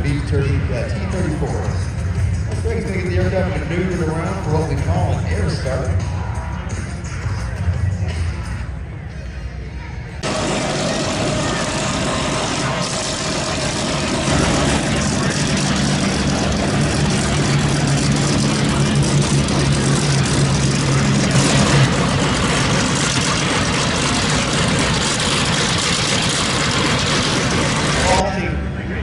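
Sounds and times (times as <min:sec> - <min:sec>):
aircraft piston engines droning: 0:00.0 - 0:29.0.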